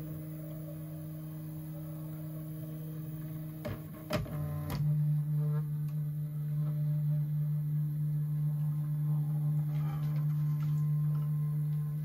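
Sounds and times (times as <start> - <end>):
three d printer humming: 0.0 - 12.0.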